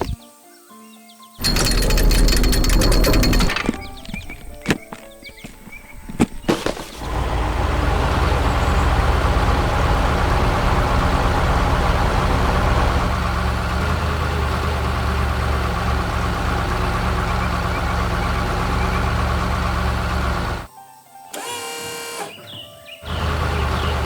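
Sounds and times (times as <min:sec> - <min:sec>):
heavy vehicle engine running: 0:01.4 - 0:20.7, 0:23.0 - 0:24.0.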